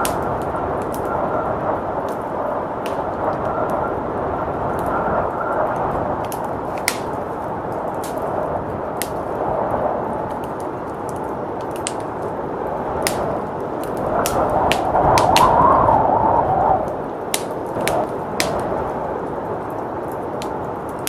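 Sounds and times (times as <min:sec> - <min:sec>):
blizzard wind rushing: 0:00.0 - 0:21.0
wood fire crackling: 0:00.0 - 0:21.0.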